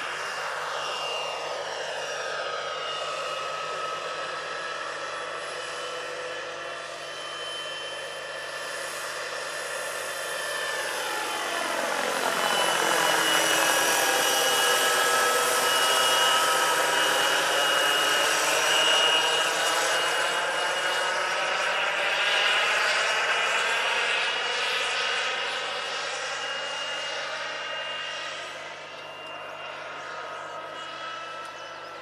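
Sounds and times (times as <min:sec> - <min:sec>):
helicopter rotor noise: 0:00.0 - 0:32.0.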